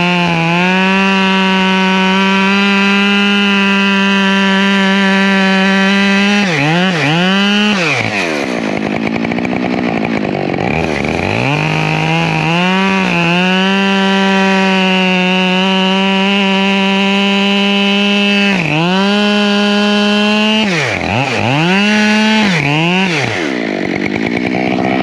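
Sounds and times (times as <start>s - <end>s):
chainsaw cutting log: 0.0s - 25.0s.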